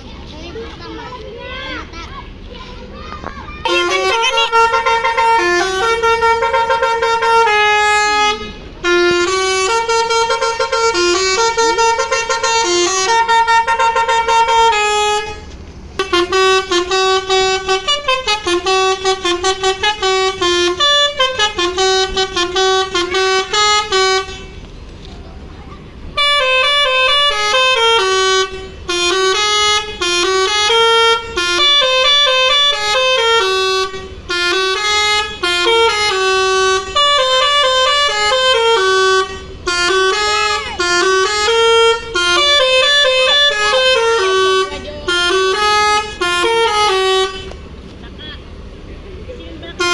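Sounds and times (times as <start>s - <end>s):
multi-tone bus horns playing tunes: 3.6s - 49.9s.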